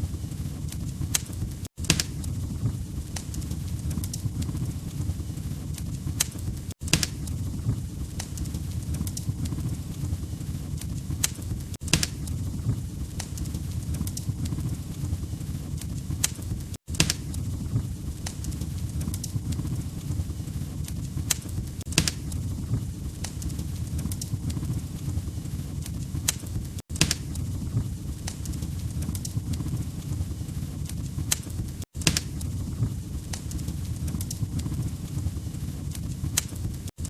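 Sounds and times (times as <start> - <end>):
log fire crackling and popping: 0.0 - 37.0
low rumble of flames: 0.0 - 37.0.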